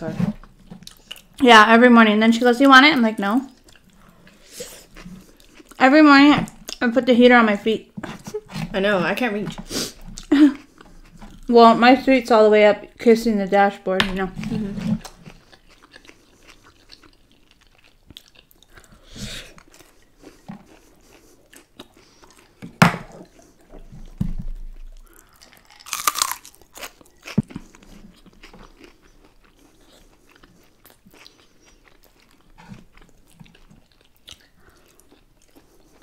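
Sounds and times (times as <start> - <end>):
chewing and crunching food: 0.1 - 1.5, 2.4 - 6.9, 7.7 - 12.2, 14.0 - 36.0.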